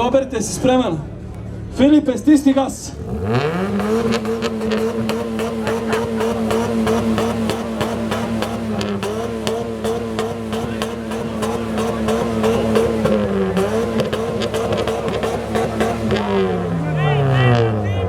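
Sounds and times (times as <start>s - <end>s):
car exhaust at high revs: 2.8s - 18.0s.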